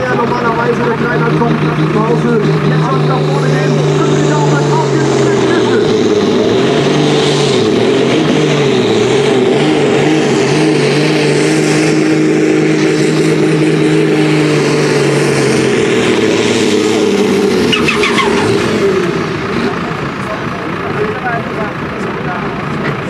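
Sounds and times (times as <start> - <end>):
tractor engine droning under load: 0.0 - 23.0.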